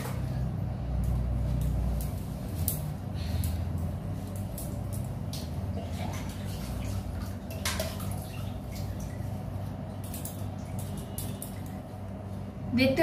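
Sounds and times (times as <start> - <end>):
water dripping and splashing: 0.0 - 12.6.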